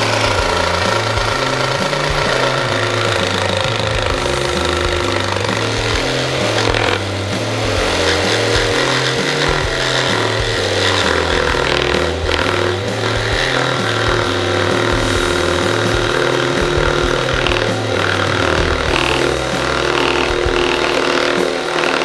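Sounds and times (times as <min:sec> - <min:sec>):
music with repeating bass line: 0:00.0 - 0:22.0.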